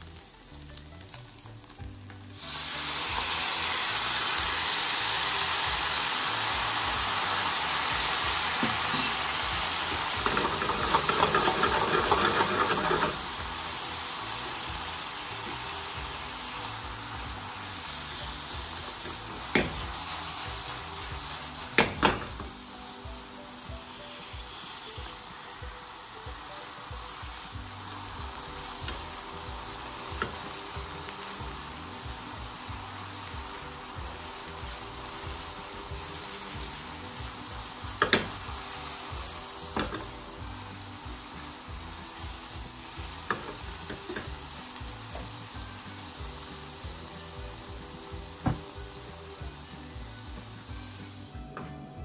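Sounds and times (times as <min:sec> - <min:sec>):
food sizzling in a frying pan: 0:00.0 - 0:51.6
soft background music: 0:00.0 - 0:52.0.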